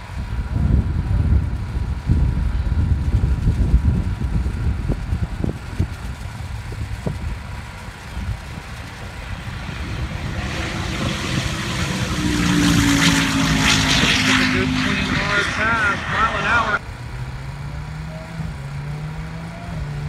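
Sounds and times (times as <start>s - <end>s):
wind rumble on microphone: 0.0s - 16.8s
car engine and tyre noise: 0.0s - 20.0s.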